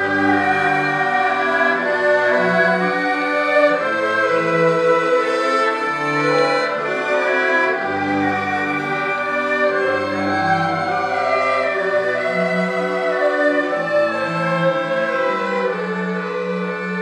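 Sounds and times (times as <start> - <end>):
bowed strings holding notes: 0.0 - 17.0.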